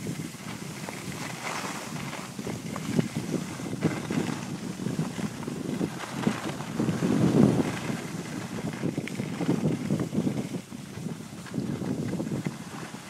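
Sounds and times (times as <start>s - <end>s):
skis scraping on snow: 0.0s - 13.0s
wind buffeting microphone: 0.0s - 13.0s.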